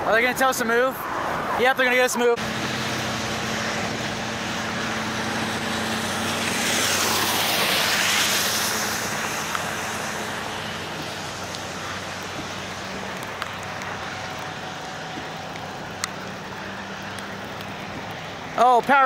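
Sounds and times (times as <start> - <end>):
highway traffic noise: 0.0 - 19.0
vehicle engine hum: 2.2 - 18.6
tyres hissing on wet pavement: 2.4 - 19.0.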